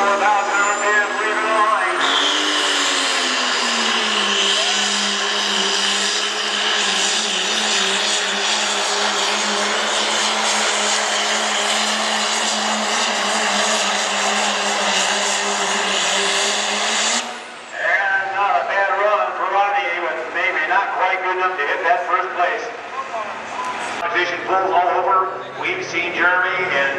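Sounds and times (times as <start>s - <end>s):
diesel engine at full throttle: 0.0s - 26.9s.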